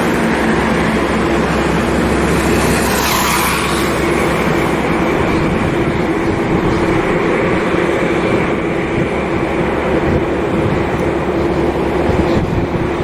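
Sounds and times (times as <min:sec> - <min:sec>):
jet landing: 0:00.0 - 0:13.0.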